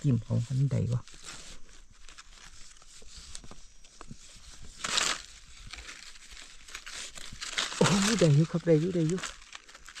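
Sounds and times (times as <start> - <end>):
soil and leaf litter scraping: 0.0 - 10.0.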